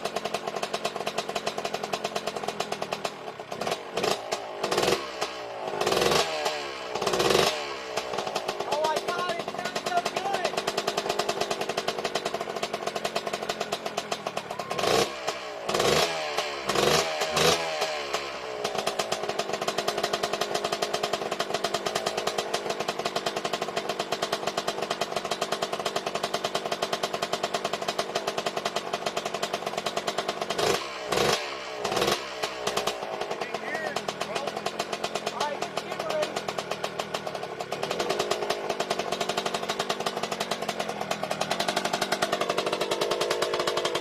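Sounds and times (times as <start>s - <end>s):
two-stroke engine idling: 0.0s - 44.0s.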